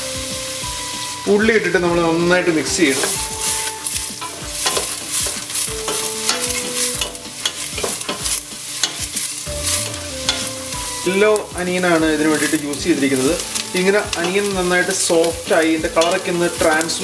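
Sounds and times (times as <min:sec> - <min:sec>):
onions sizzling in butter: 0:00.0 - 0:17.0
spatula scraping and knocking pot: 0:02.7 - 0:17.0.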